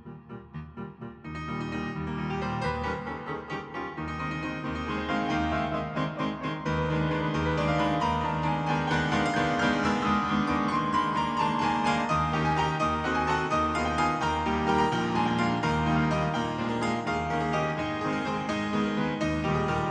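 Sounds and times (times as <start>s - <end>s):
instrumental keyboard music: 0.0s - 19.9s.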